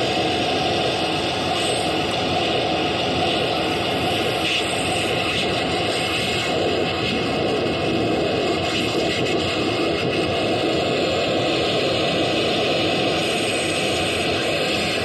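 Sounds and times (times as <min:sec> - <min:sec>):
dense noise wash: 0:00.0 - 0:15.0.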